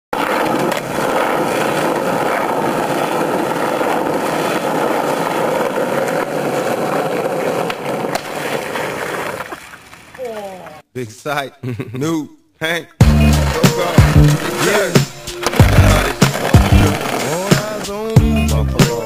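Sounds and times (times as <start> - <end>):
skateboard wheels rolling on asphalt: 0.1 - 10.4, 13.0 - 19.0
skateboard clacks: 0.2 - 10.2, 13.0 - 19.0.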